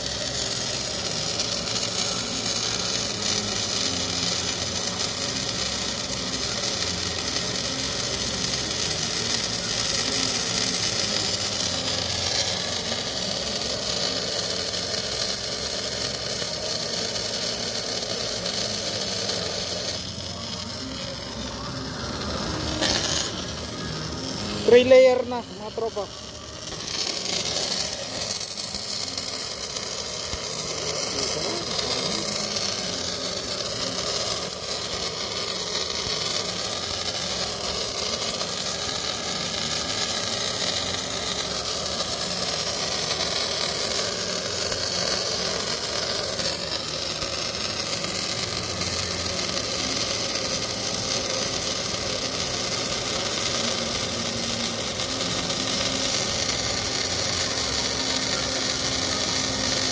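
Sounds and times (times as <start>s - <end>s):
welding arc hissing: 0.0s - 59.9s.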